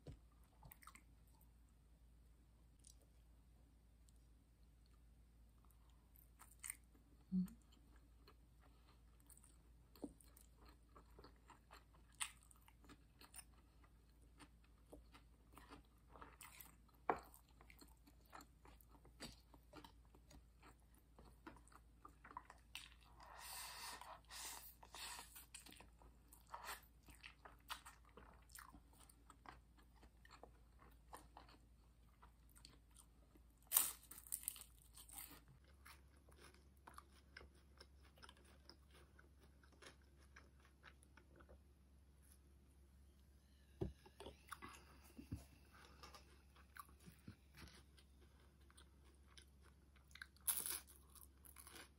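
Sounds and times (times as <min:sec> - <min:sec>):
chewing and crunching food: 0:00.1 - 0:01.6, 0:04.0 - 0:42.5, 0:43.9 - 0:51.9.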